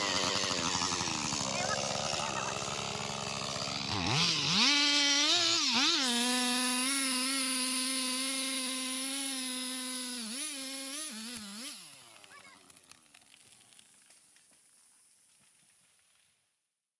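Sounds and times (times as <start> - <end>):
chainsaw cutting tree trunk: 0.0 - 16.3.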